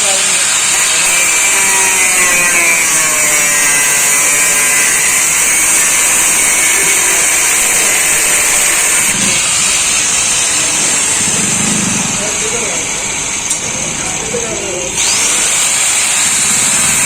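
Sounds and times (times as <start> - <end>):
power tool grinding metal: 0.0 - 17.0.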